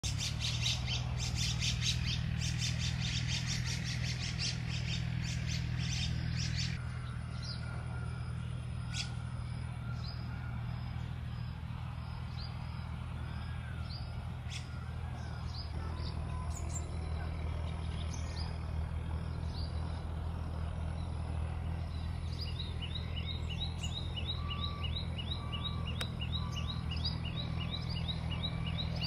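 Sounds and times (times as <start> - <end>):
songbirds chirping: 0.0 - 29.0
steady low hum: 0.0 - 29.0.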